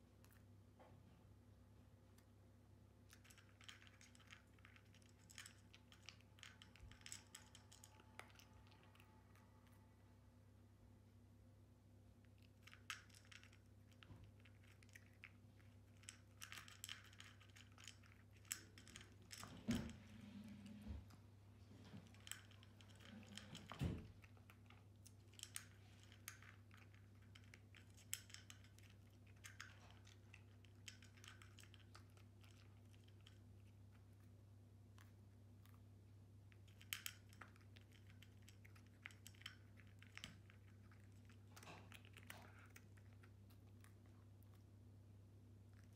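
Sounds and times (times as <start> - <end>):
cat crunching dry kibble: 3.0 - 9.8, 12.2 - 44.8, 45.5 - 45.9.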